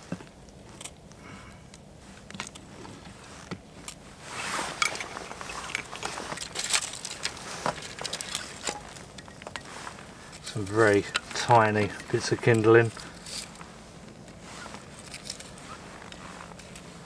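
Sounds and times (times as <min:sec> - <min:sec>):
small flame crackling and popping: 0:00.0 - 0:17.0.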